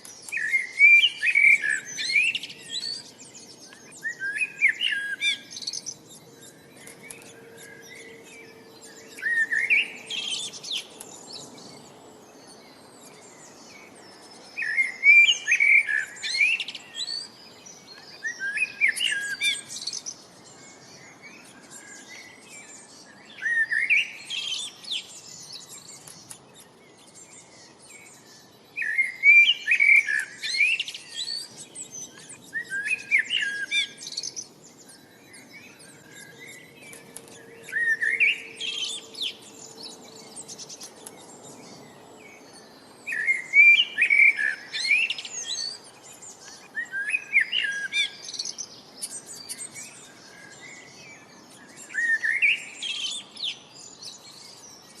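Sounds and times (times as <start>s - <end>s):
songbird singing warbled phrases: 0.0s - 55.0s.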